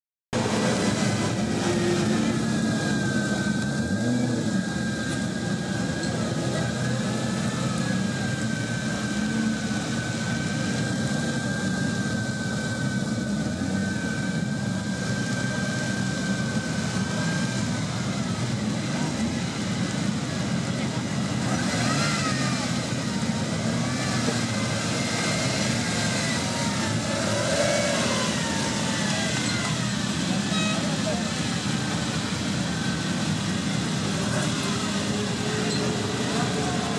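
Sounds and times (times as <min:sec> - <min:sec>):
car engine idling: 0:00.4 - 0:36.9.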